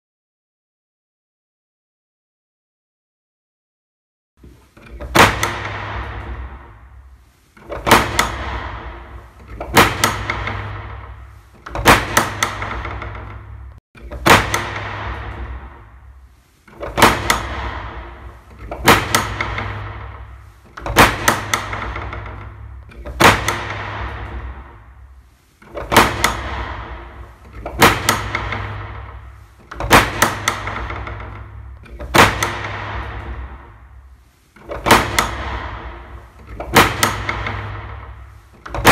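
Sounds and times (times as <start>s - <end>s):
low steady rumble: 4.4s - 38.9s
heavy reverberant hits: 5.0s - 38.9s.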